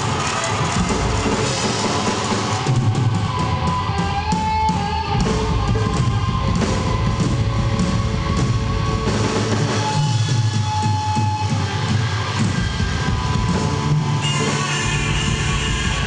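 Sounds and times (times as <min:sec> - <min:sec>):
drums: 0:00.0 - 0:16.0
electric guitar: 0:00.0 - 0:16.0.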